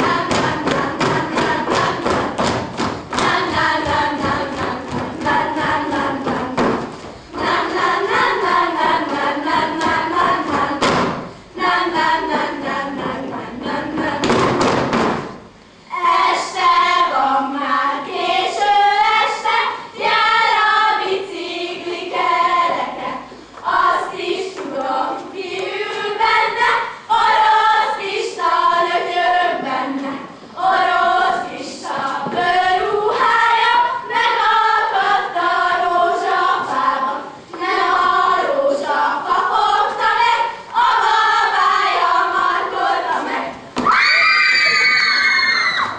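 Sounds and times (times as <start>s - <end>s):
girls singing in unison: 0.0s - 45.9s.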